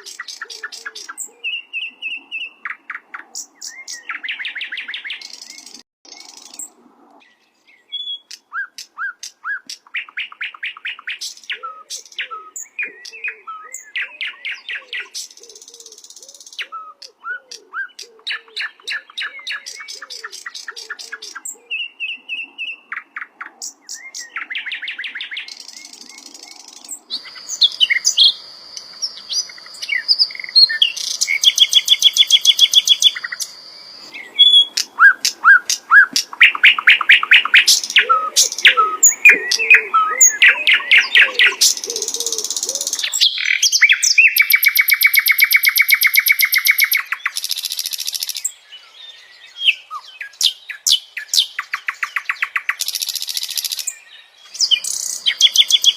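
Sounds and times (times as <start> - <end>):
bird singing trills and whistles: 0.0 - 55.9.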